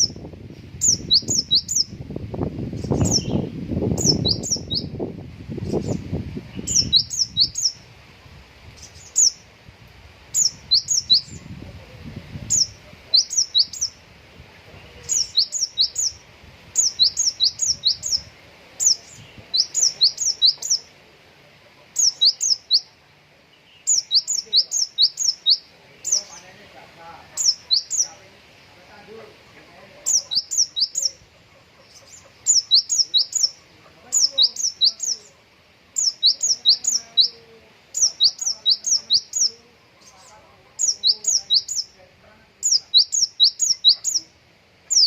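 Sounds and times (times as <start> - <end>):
songbird singing sharp notes: 0.0 - 7.9, 8.6 - 9.5, 10.3 - 11.6, 12.2 - 21.0, 21.9 - 26.6, 27.3 - 29.0, 30.0 - 42.0, 42.6 - 45.0.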